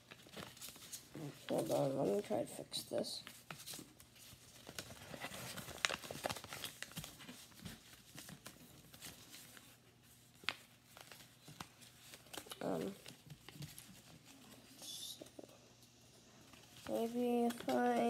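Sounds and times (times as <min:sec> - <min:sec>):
paper rustling and crinkling: 0:00.0 - 0:15.4, 0:16.4 - 0:18.0.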